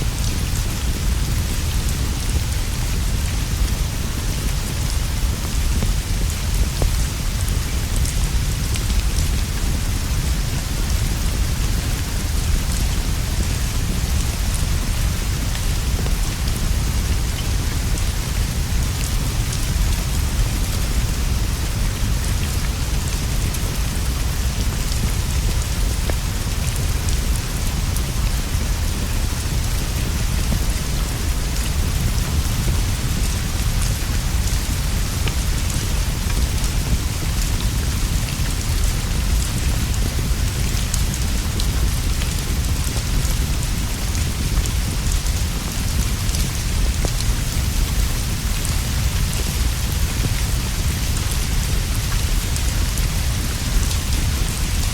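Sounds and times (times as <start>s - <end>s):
heavy rain on leaves and roof: 0.0s - 54.9s.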